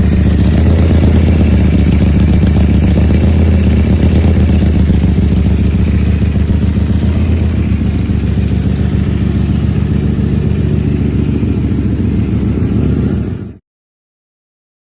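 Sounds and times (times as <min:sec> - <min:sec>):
motorcycle engine idling loudly: 0:00.0 - 0:13.6.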